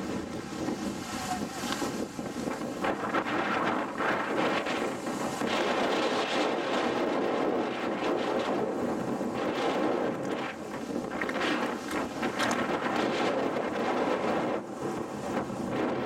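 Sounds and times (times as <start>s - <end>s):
surf breaking on rocks: 0.0s - 16.0s.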